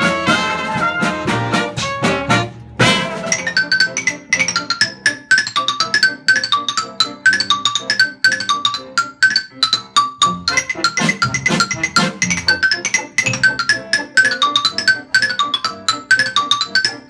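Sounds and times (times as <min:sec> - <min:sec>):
jazz band playing: 0:00.0 - 0:16.8
xylophone fast run: 0:00.0 - 0:17.0.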